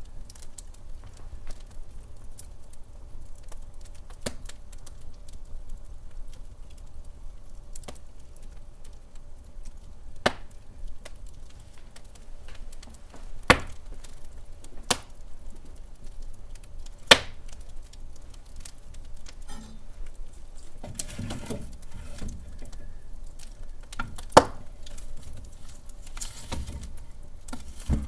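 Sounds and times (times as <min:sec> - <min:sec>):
wood fire crackling: 0:00.0 - 0:28.0
sharp fire pops: 0:00.3 - 0:28.0.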